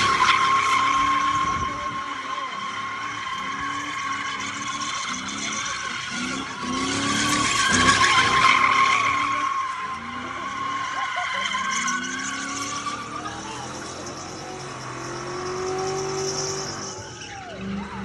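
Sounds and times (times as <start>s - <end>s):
car tyres squealing: 0.0s - 18.0s
voices: 0.0s - 18.0s.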